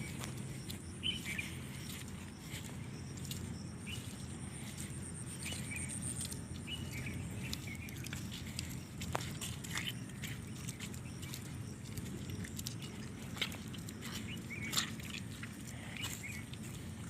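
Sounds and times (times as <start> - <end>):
small bird chirping: 0.0 - 15.2, 15.9 - 16.6
steady low rumble: 0.0 - 17.0.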